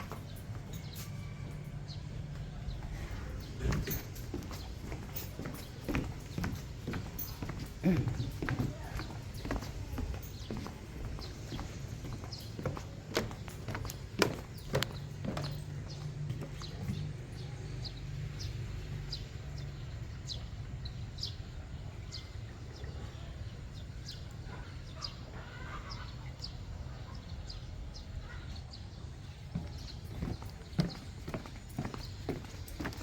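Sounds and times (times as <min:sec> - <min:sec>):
train carriage rumble: 0:00.0 - 0:25.0, 0:26.5 - 0:33.0.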